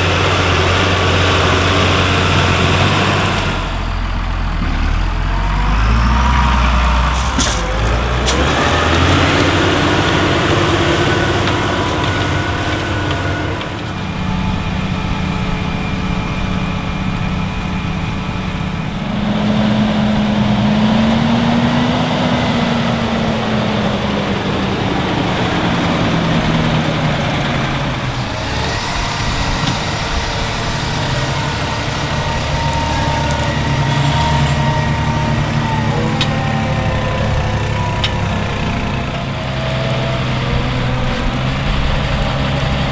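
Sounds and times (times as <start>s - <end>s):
diesel farm machinery engines: 0.0s - 42.9s.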